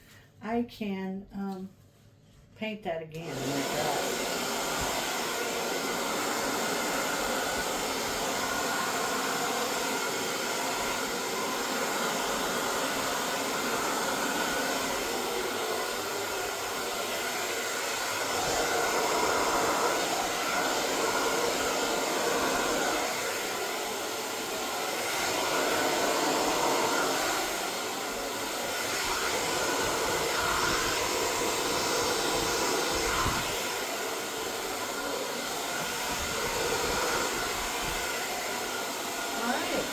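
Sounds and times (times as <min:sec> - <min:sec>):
hair dryer running: 0:03.2 - 0:39.9.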